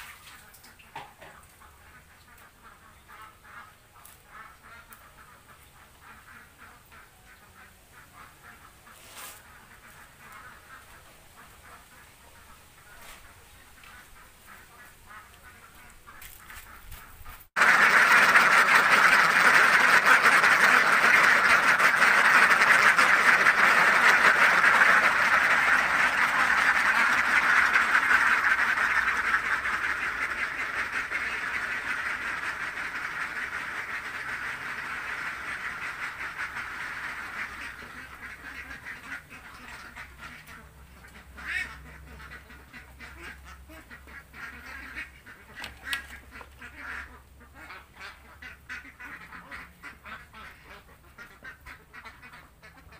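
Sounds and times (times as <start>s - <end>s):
flock of ducks quacking: 0.0s - 52.9s.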